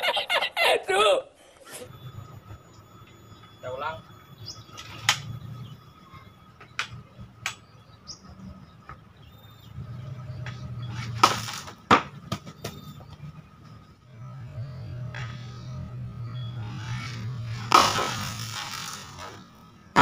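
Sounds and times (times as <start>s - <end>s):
bird chirping: 1.4s - 19.9s.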